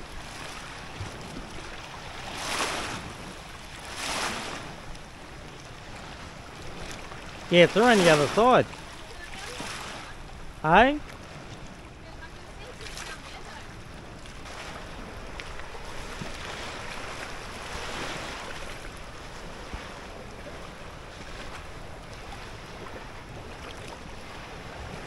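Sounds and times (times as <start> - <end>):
lapping lake water: 0.0 - 25.0.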